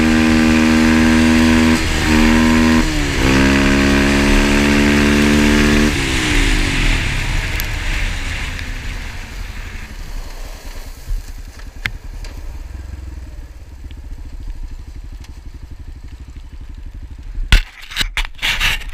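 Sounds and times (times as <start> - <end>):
engine idling: 1.2 - 17.7.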